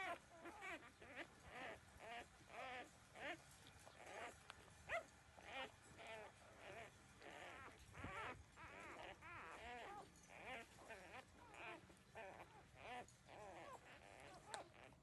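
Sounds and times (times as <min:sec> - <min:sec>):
puppies whining and squealing: 0:00.0 - 0:15.0.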